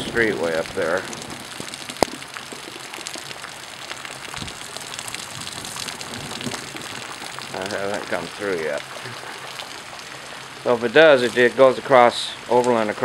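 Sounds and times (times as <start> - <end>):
floodwater rushing down a street: 0.0 - 13.0.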